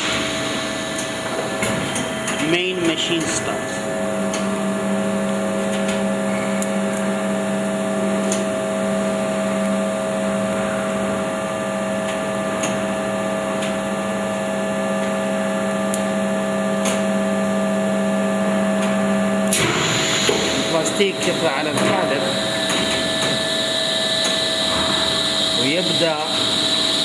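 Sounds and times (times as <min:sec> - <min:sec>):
machine motor and pump hum: 0:00.0 - 0:27.0.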